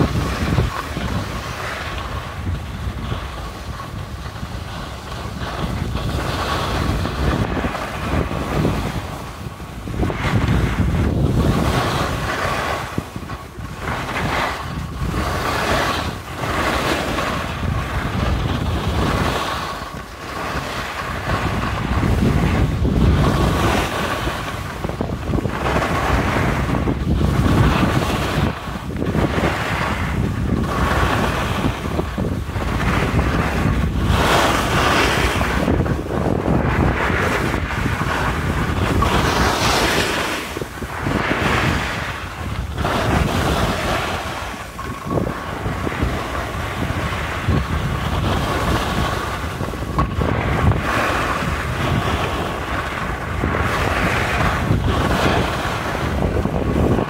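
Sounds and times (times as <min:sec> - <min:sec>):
skis carving on packed snow: 0:00.0 - 0:57.0
wind rushing on microphone: 0:00.0 - 0:57.0.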